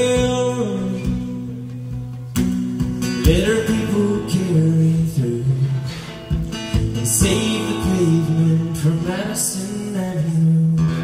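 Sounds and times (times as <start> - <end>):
man singing: 0.0 - 1.8, 3.0 - 11.0
acoustic guitar strumming: 0.0 - 11.0.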